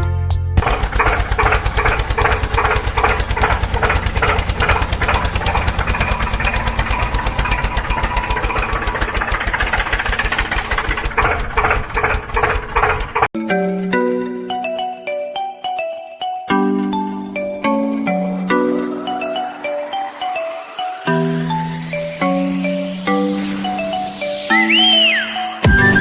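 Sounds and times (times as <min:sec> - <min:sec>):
tractor engine chugging: 0:00.6 - 0:15.1, 0:16.5 - 0:24.5.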